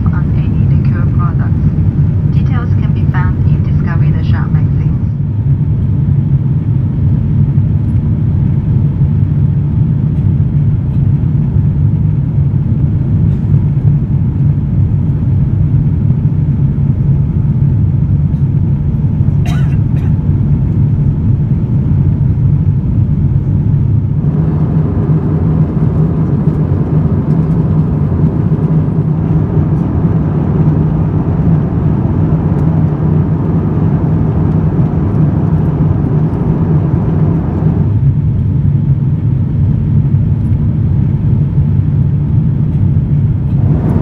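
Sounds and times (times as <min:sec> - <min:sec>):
airliner cabin rumble: 0:00.0 - 0:44.0.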